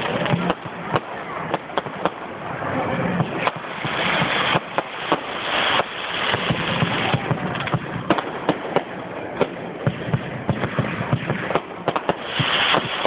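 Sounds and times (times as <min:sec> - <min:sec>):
fireworks crackling hiss: 0:00.0 - 0:13.0
fireworks sharp bangs: 0:00.0 - 0:13.0.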